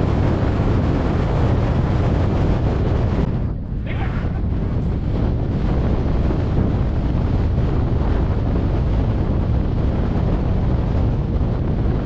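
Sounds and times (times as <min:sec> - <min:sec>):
wind rushing across microphone: 0:00.0 - 0:12.0.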